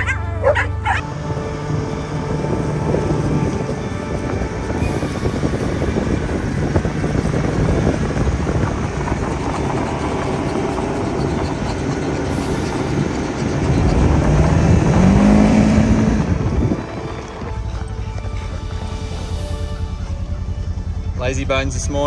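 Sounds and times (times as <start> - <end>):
wind noise: 0.0 - 21.6
farm vehicle engine rumbling: 0.0 - 22.0.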